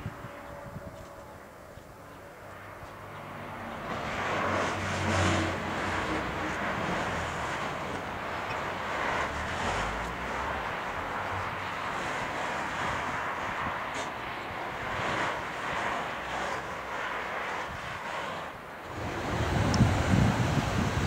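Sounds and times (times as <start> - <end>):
airliner engine roar: 0.0 - 21.0.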